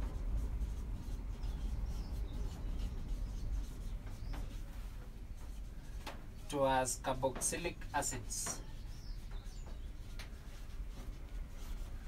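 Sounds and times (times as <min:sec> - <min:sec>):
steady low hum: 0:00.0 - 0:12.0
marker squeaking on whiteboard: 0:00.1 - 0:12.0.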